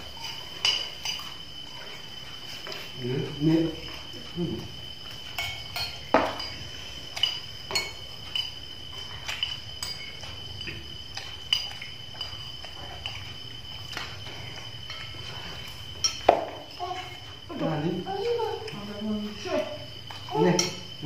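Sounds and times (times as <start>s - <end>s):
spoons clinking on plates: 0.0s - 4.3s, 4.9s - 17.4s, 18.1s - 21.0s.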